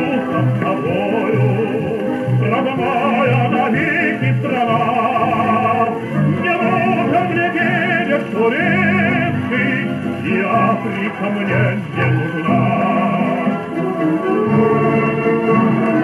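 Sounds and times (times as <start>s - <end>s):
man singing with vibrato: 0.0s - 16.0s
orchestral accompaniment: 0.0s - 16.0s.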